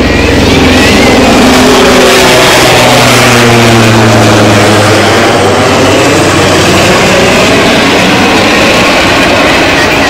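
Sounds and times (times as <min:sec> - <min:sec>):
helicopter rotor and turbine noise: 0:00.0 - 0:10.0.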